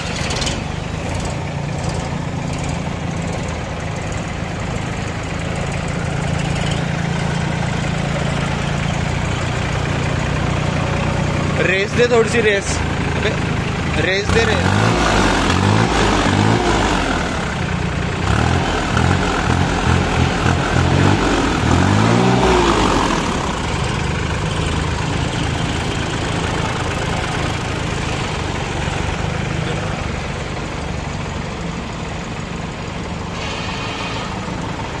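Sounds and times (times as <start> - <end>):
tractor diesel engine revving: 0.0 - 35.0.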